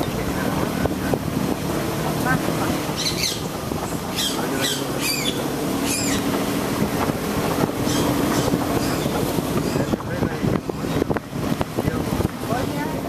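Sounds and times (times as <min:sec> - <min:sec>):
car engine and tyres driving: 0:00.0 - 0:13.0.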